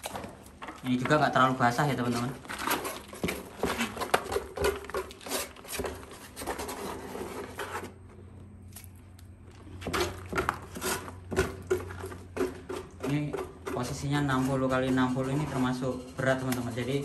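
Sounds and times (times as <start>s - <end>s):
wet cement scraped on tile: 1.8s - 8.2s, 9.6s - 17.0s.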